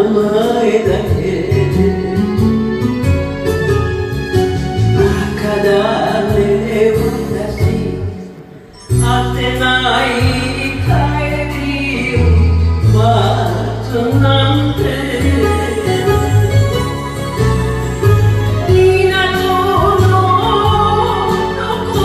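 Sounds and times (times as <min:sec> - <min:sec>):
woman singing into a microphone: 0:00.0 - 0:02.9, 0:05.0 - 0:22.0
karaoke backing track: 0:00.0 - 0:22.0.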